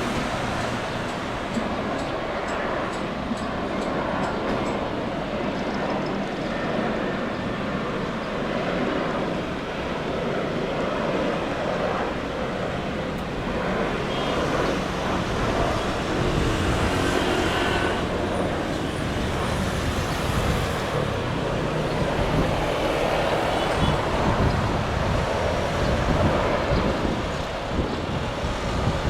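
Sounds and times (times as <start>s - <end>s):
jet airliner roar: 0.0s - 29.0s.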